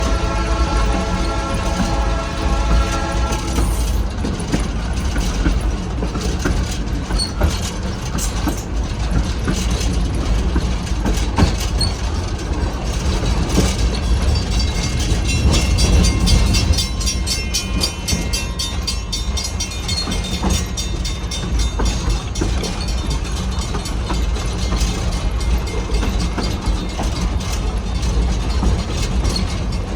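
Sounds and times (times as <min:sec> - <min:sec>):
train rumbling: 0:00.0 - 0:29.9
wheels clattering over rails: 0:00.0 - 0:29.9.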